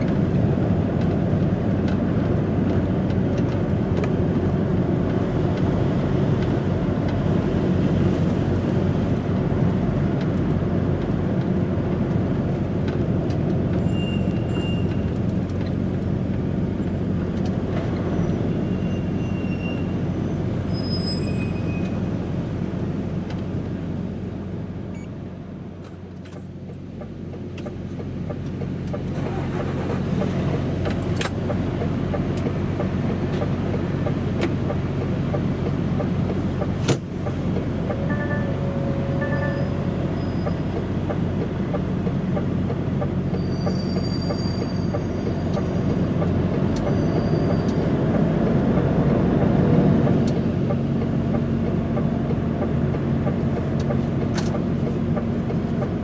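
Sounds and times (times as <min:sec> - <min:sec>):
road noise: 0:00.0 - 0:56.0
truck engine droning: 0:00.0 - 0:56.0.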